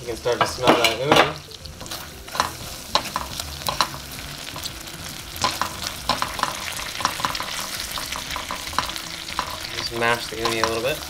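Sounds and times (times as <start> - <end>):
sauce sizzling in a pan: 0.0 - 11.0
spoon scraping and clicking on pan: 0.4 - 4.7, 5.4 - 10.8.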